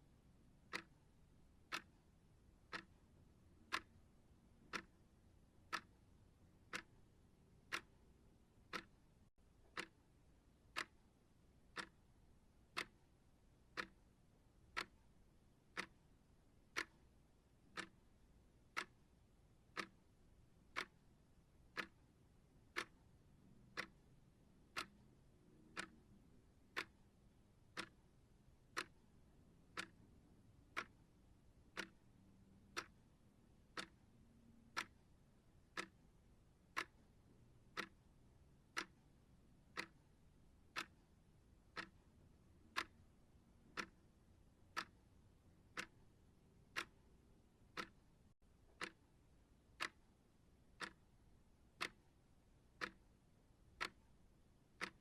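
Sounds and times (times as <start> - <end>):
clock ticking: 0.5 - 55.0.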